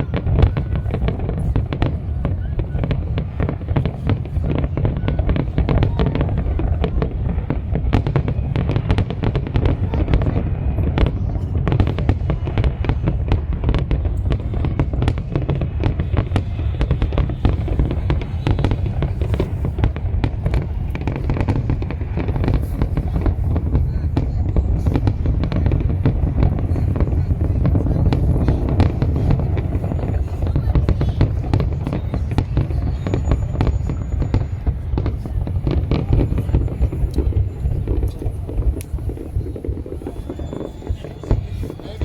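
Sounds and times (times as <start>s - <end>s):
fireworks cracks and bangs: 0.0s - 42.0s.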